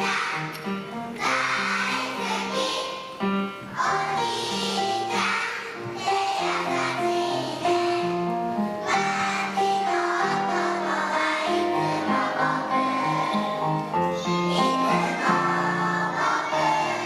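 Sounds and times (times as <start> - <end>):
children singing together: 0.0 - 17.0
recorded backing music: 0.0 - 17.0.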